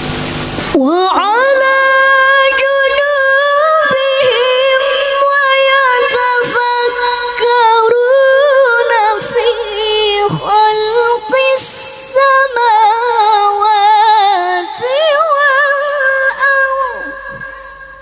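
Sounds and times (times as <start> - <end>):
woman chanting melodically: 0.7 - 18.0.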